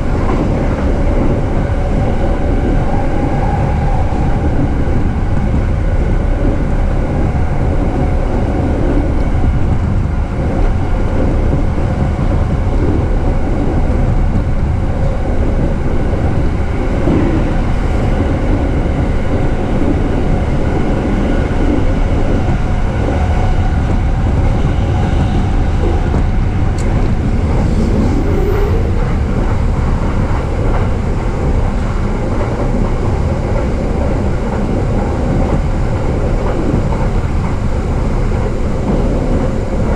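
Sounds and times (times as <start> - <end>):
steady tones: 0.0 - 39.9
train wheels rumbling on rail: 0.0 - 39.9.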